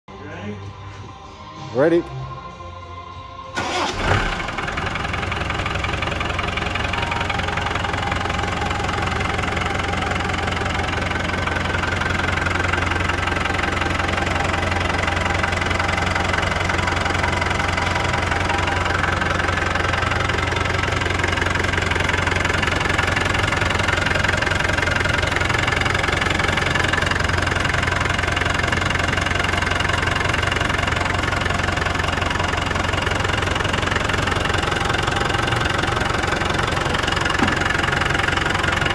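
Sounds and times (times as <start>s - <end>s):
engine idling: 3.5s - 38.9s.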